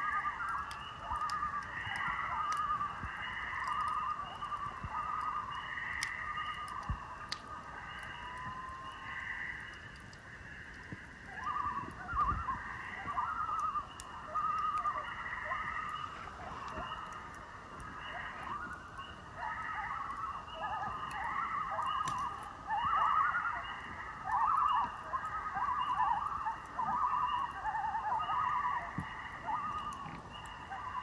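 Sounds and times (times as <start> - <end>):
loons calling: 0.0 - 31.0.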